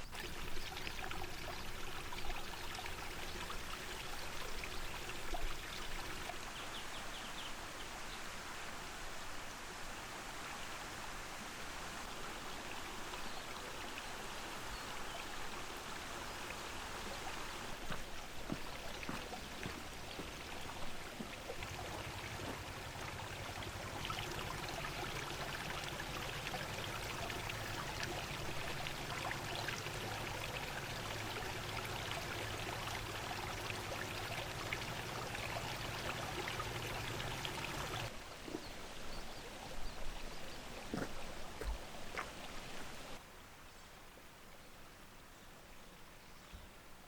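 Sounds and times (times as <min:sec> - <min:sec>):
flowing water rushing: 0:00.0 - 0:43.2.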